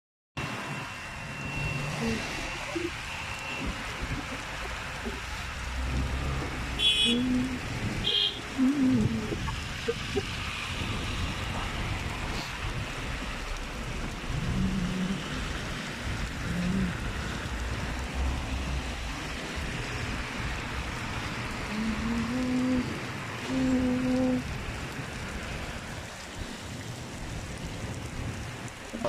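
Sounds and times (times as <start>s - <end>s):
heavy rain hissing: 0.4s - 29.0s.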